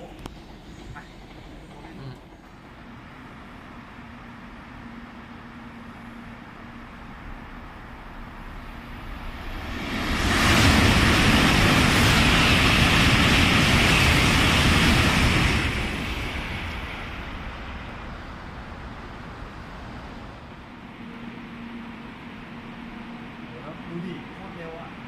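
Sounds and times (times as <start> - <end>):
high-speed train passing roar: 0.0 - 25.0.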